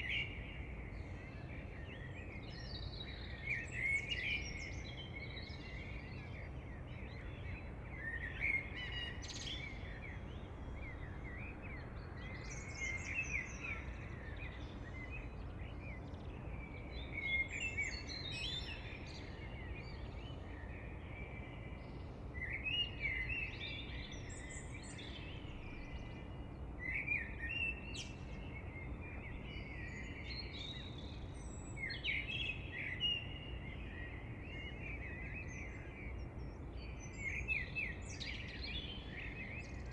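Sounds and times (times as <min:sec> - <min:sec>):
low background hiss: 0:00.0 - 0:39.9
wild birds chirping and trilling: 0:00.0 - 0:39.9.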